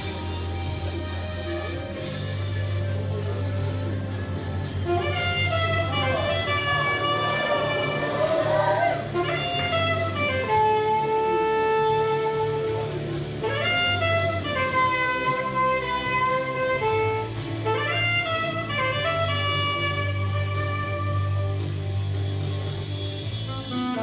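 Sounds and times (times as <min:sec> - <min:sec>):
instrumental melody: 0:00.0 - 0:24.0
steady bass: 0:00.0 - 0:24.0.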